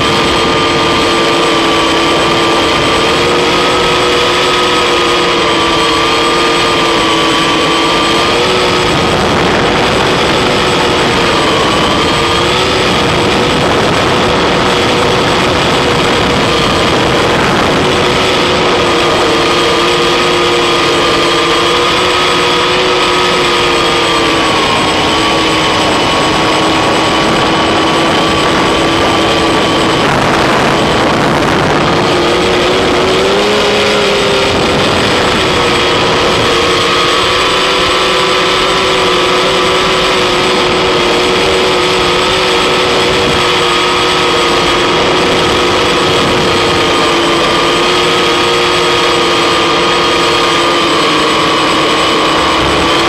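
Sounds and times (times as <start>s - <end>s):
drone motors and propellers running: 0.0s - 53.0s
thin high whine: 0.0s - 53.0s.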